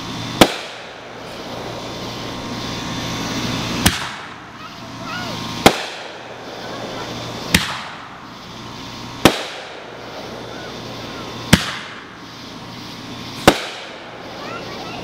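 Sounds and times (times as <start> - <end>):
fireworks booming: 0.0 - 15.0
steady background hiss: 0.0 - 15.0.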